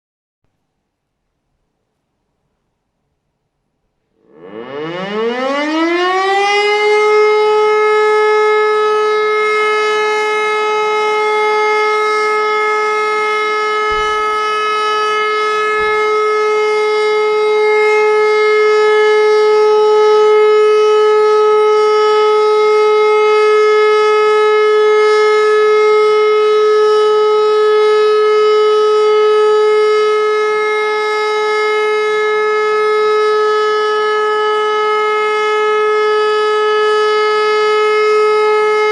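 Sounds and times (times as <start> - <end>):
civil defence siren winding up: 4.2 - 38.9.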